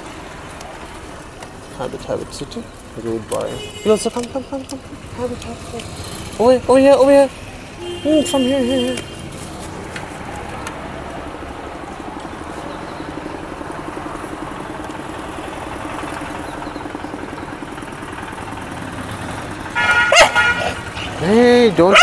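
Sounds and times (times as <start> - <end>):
engine rumbling: 0.0 - 22.0.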